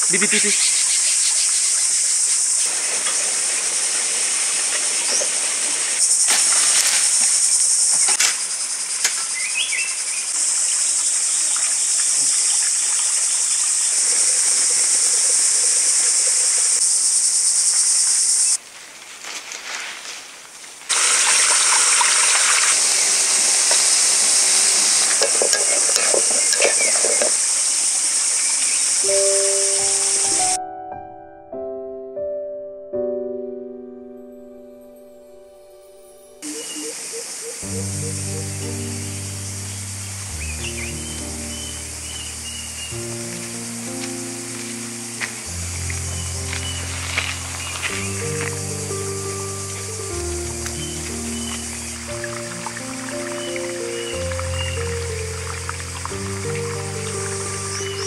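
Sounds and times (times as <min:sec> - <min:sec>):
insects droning: 0:00.0 - 0:30.6, 0:35.4 - 0:58.0.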